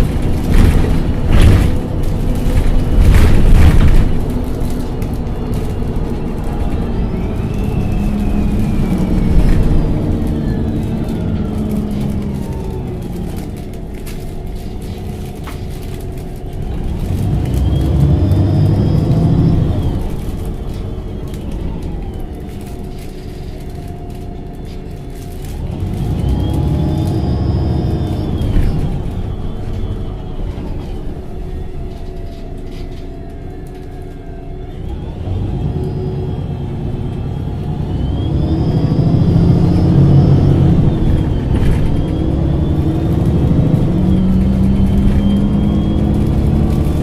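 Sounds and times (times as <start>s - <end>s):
bus engine rumbling: 0.0s - 47.0s
drivetrain whine: 0.0s - 47.0s.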